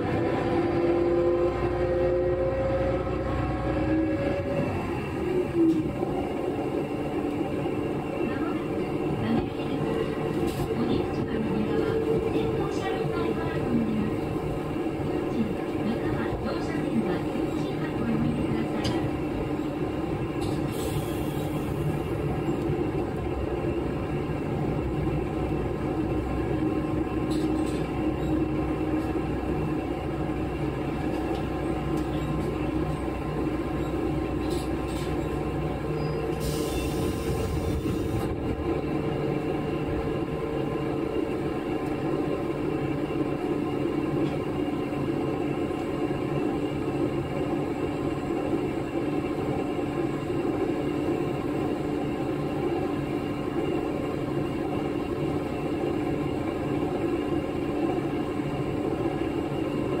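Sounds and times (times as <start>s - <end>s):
diesel railcar engine drone: 0.0s - 60.0s
rail rumble: 0.0s - 60.0s.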